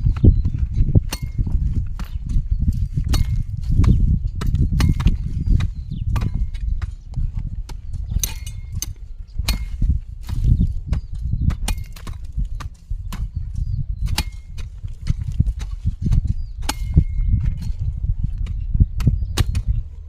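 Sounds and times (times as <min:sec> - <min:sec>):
hand tool chopping soil: 0:00.0 - 0:19.8
steady low rumble: 0:00.0 - 0:20.0.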